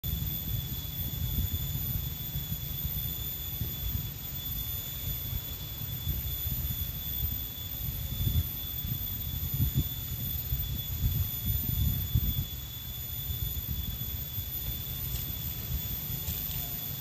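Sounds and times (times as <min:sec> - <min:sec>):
steady high-pitched whine: 0:00.0 - 0:17.0.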